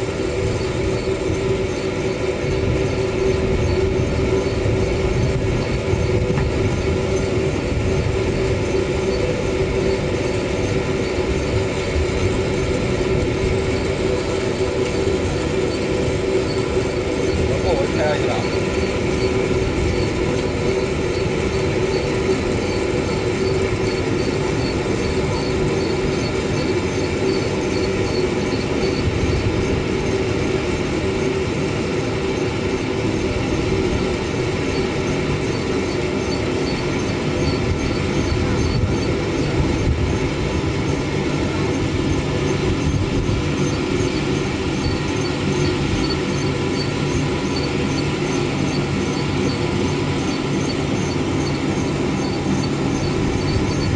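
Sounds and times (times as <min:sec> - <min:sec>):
machinery humming: 0:00.0 - 0:53.9.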